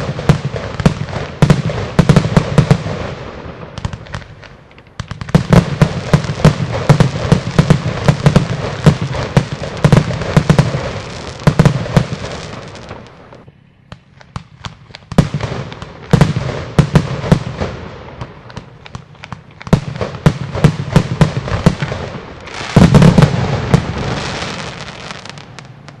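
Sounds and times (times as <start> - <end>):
firework bangs and thuds: 0.0 - 26.0.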